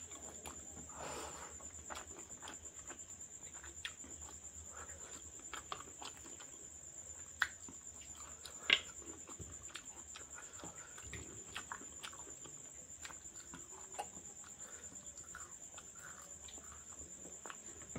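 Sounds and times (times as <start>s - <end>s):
wet chewing: 0.0s - 17.9s.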